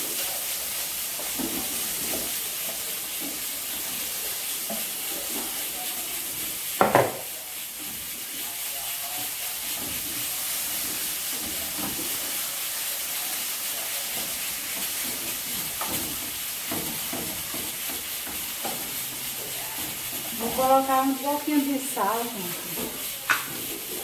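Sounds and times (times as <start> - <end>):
greens sizzling in frying pan: 0.0 - 24.0
spoon stirring and knocking pan: 1.1 - 5.7, 6.3 - 8.4, 9.0 - 24.0.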